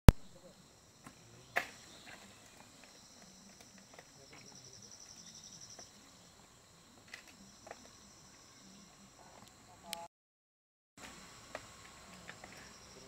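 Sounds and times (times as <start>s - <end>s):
insects trilling: 0.2s - 10.1s, 11.0s - 13.0s.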